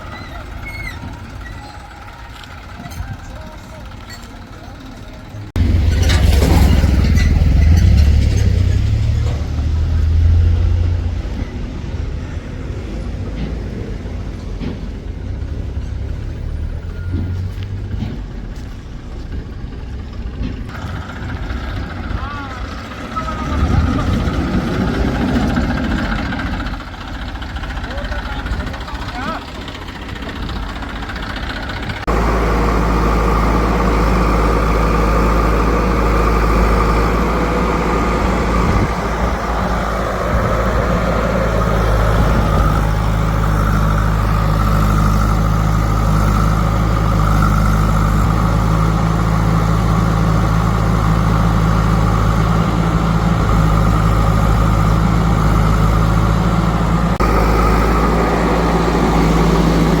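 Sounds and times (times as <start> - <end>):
diesel engine droning: 0.0 - 60.0.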